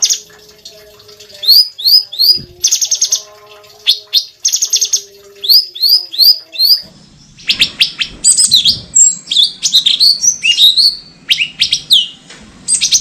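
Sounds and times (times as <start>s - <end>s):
songbird singing: 1.3s - 13.0s.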